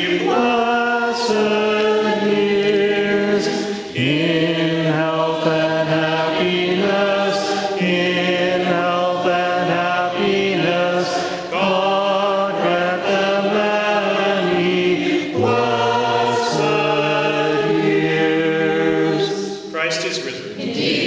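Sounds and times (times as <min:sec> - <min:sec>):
group chanting in harmony: 0:00.0 - 0:19.7, 0:20.4 - 0:21.0.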